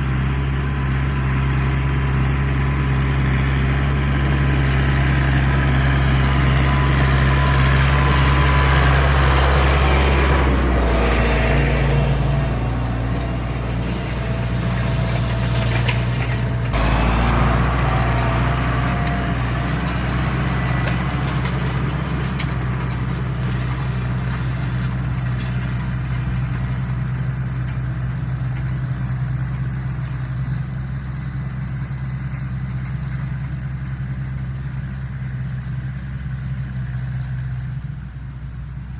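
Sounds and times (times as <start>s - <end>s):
tractor diesel engine rumbling: 0.0s - 38.9s.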